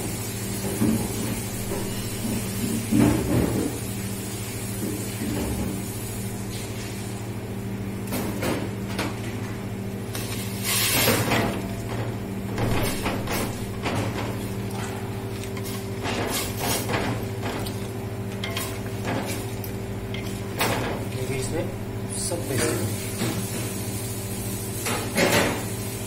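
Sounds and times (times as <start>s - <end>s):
steady low hum: 0.7s - 26.0s.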